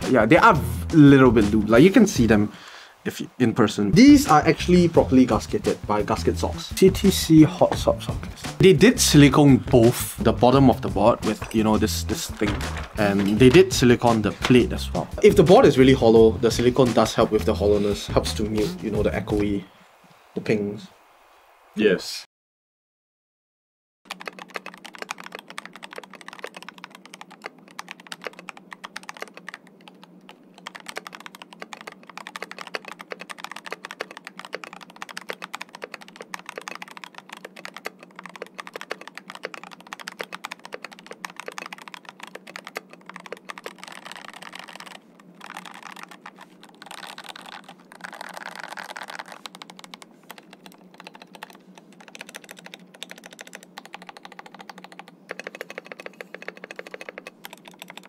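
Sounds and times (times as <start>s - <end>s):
mechanical keyboard typing: 4.0s - 18.7s, 24.1s - 58.0s.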